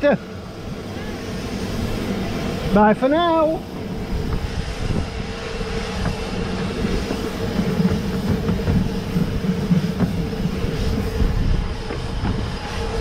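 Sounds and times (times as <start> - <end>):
steam locomotive rumbling: 0.0 - 13.0.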